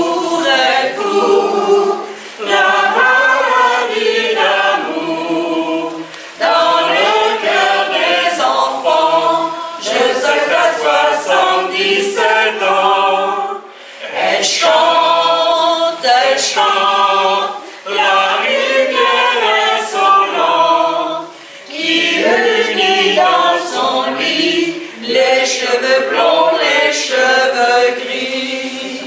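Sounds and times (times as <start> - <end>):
choir singing unaccompanied: 0.0 - 29.0.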